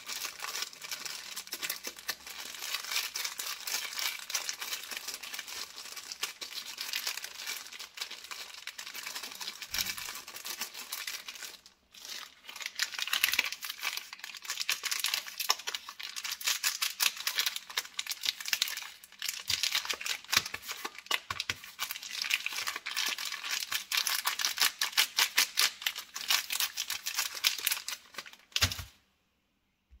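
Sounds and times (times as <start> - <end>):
plastic wrappers crinkling: 0.0 - 29.0.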